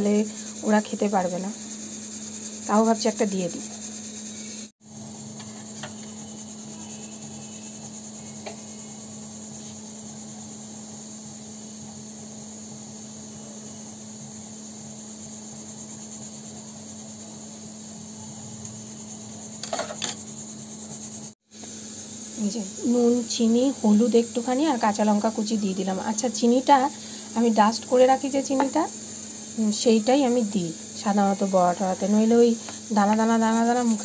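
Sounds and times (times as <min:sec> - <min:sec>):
background hum and hiss: 0:00.0 - 0:34.0.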